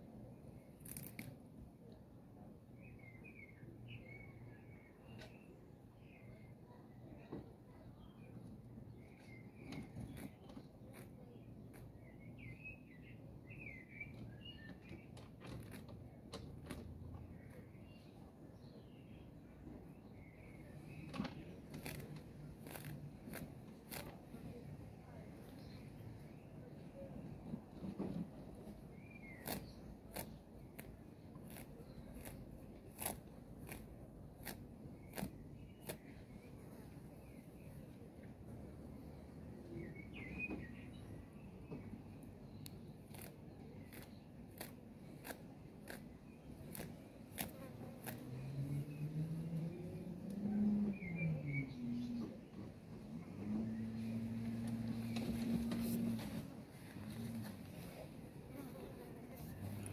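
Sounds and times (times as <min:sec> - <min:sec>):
low steady background rumble: 0:00.0 - 0:59.9.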